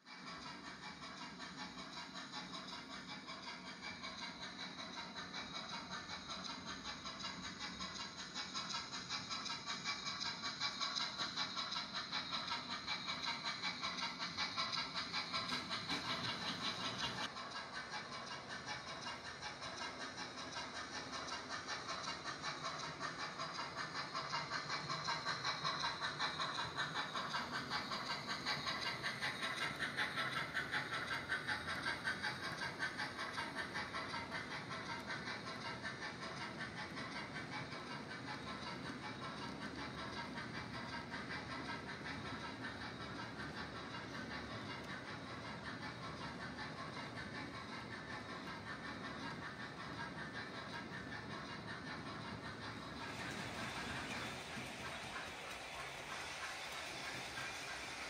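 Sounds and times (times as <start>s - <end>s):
model train wheels clattering: 0.0s - 58.0s.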